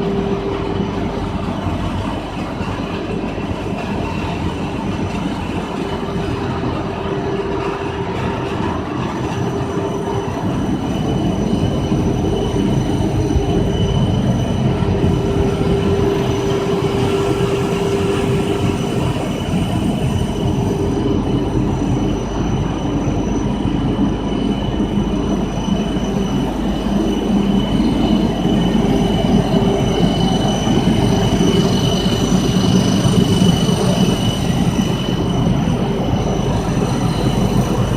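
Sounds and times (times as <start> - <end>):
faint high whines: 0.0 - 37.9
humming tone: 5.8 - 37.9.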